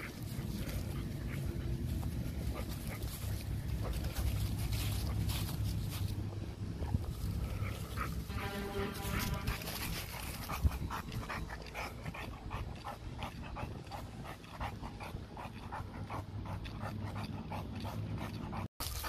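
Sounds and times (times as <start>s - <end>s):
dog panting rapidly: 0.0s - 6.2s, 6.8s - 19.0s.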